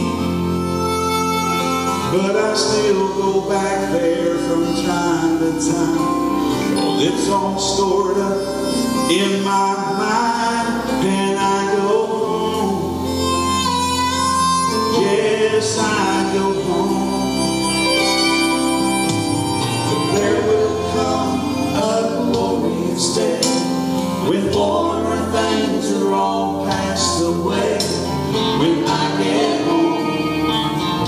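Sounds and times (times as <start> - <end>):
instrumental accompaniment: 0.0 - 31.0
man singing gospel song: 2.0 - 13.7, 14.6 - 17.9, 19.8 - 31.0.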